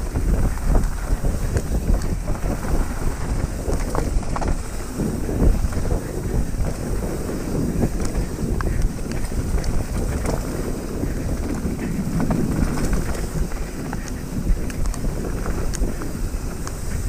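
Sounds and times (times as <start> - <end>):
bike tyres rumbling and rattling: 0.0 - 17.0
wind buffeting microphone: 0.0 - 17.0.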